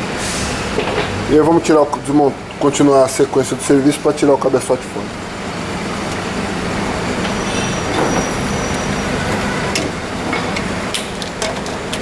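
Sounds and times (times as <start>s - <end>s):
machine humming: 0.0s - 11.5s.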